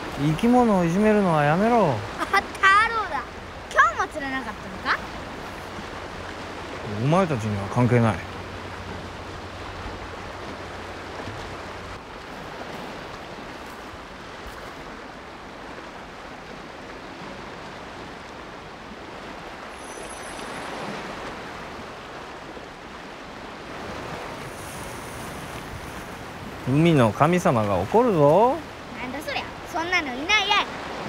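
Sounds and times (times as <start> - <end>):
surf washing onto sandy beach: 0.0 - 31.0.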